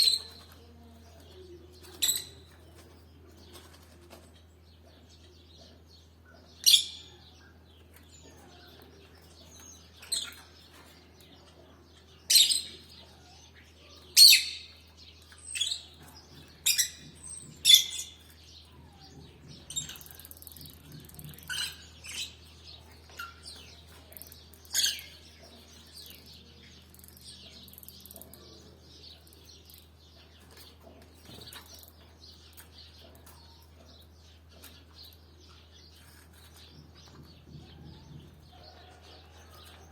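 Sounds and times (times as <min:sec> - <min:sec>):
canaries chirping: 0:00.0 - 0:39.9.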